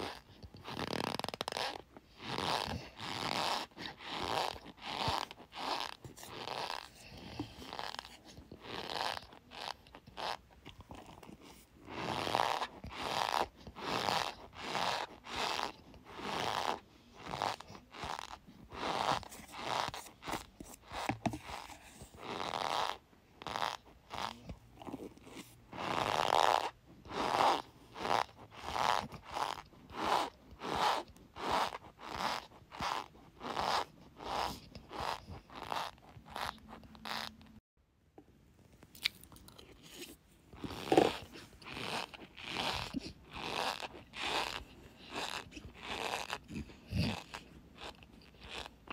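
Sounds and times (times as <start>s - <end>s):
spoon scraping cornstarch: 0.0s - 37.6s, 39.0s - 48.9s
squeaky crunch: 0.0s - 37.6s, 38.9s - 48.9s.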